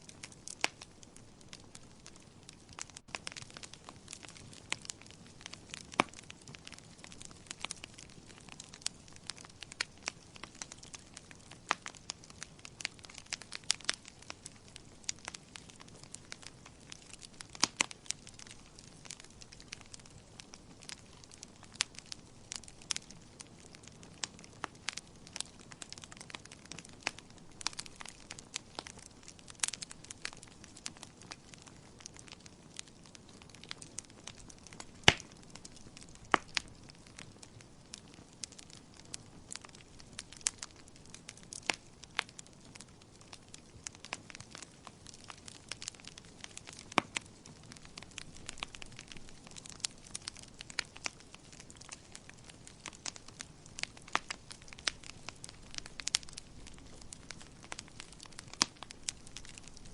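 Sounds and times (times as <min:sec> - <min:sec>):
faint steady hiss: 0:00.0 - 0:59.9
wood fire popping and snapping: 0:00.0 - 0:59.9.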